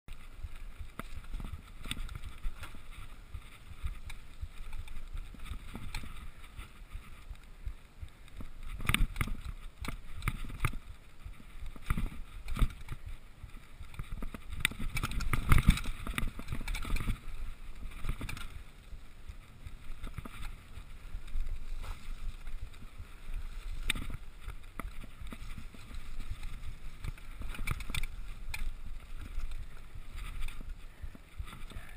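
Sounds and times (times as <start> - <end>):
bike knocking and rattling: 0.1 - 31.9.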